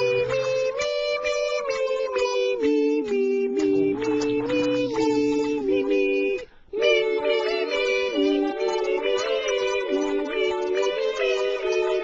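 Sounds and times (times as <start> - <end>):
music of held chords: 0.0 - 12.0.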